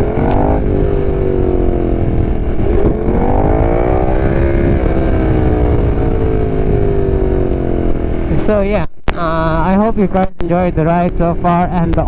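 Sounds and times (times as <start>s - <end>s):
motorcycle engine running: 0.0s - 8.6s, 9.3s - 12.0s
wind rumble on microphone: 0.0s - 12.0s.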